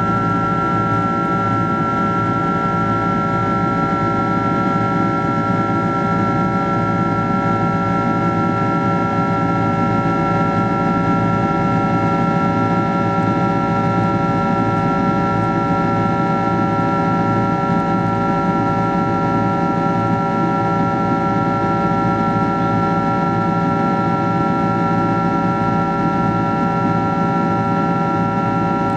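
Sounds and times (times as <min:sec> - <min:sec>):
jet engine drone in cabin: 0:00.0 - 0:28.9.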